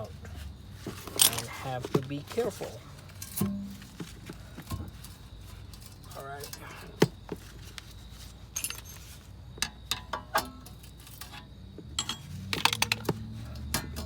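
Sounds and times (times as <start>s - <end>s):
metallic clinks and knocks: 0.8s - 7.7s, 8.5s - 14.0s.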